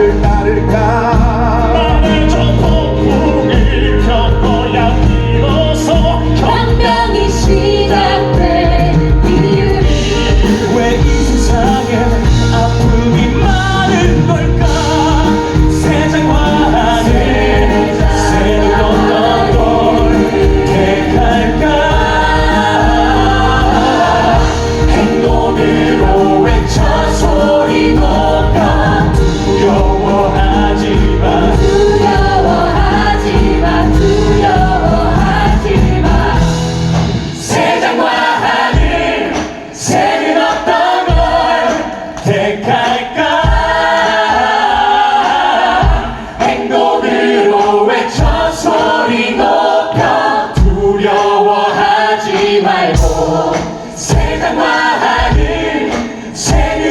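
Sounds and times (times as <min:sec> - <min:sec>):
band accompaniment: 0:00.0 - 0:56.9
cast singing in chorus: 0:00.0 - 0:56.9.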